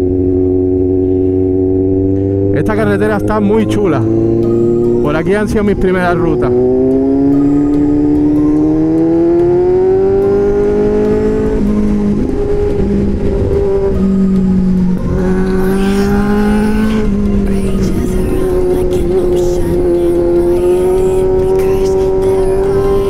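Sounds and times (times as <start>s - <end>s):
motorcycle engine: 0.0s - 23.0s.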